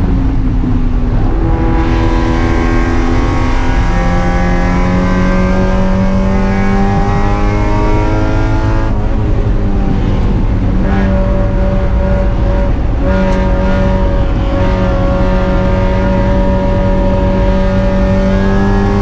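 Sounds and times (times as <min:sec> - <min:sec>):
low road and wind rumble: 0:00.0 - 0:19.0
race car engine revving: 0:00.0 - 0:19.0.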